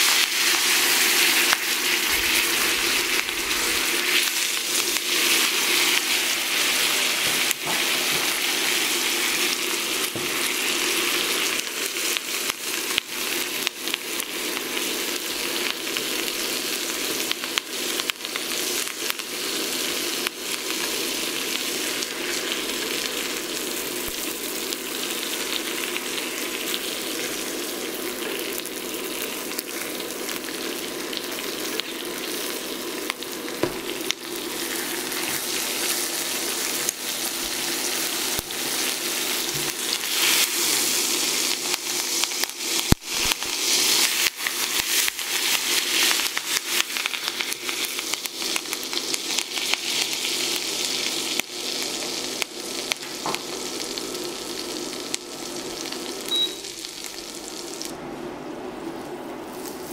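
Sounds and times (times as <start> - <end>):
steak sizzling in butter: 0.0 - 57.9.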